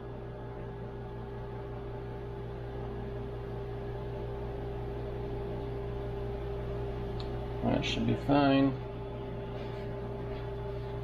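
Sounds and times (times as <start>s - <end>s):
machine or fan humming: 0.0s - 11.0s.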